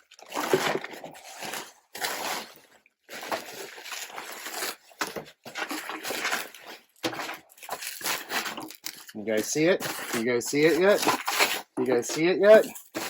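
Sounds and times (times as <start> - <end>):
packing paper rustling: 0.0 - 13.0.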